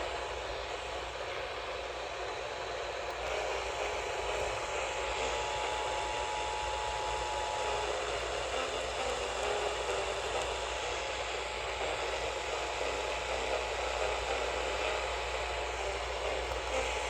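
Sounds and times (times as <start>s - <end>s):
faint steady whistle: 0.0s - 17.0s
radio static hiss: 0.0s - 17.0s.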